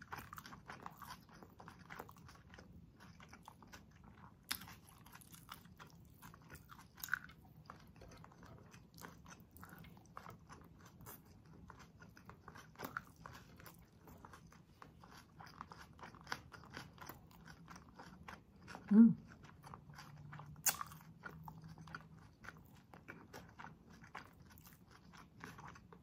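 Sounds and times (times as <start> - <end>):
chewing with mouth clicks: 0.0 - 26.0.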